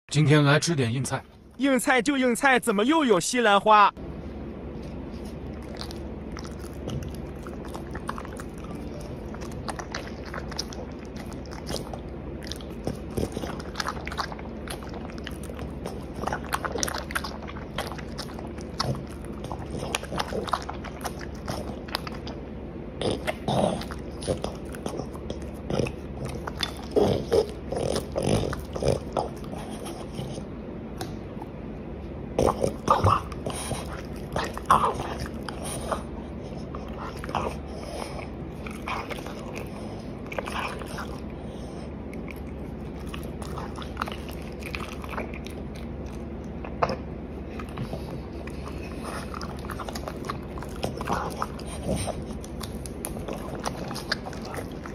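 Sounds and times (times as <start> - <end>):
dog biting and chewing: 4.7 - 31.6, 32.3 - 54.9.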